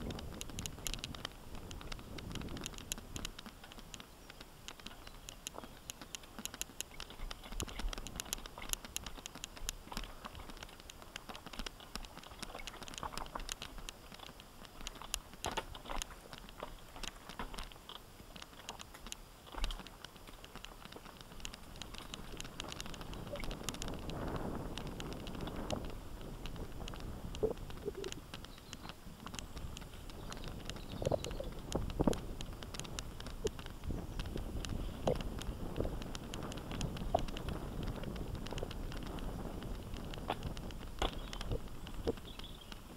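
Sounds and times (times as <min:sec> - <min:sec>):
bike tyres rattling over stones: 0:00.0 - 0:42.9.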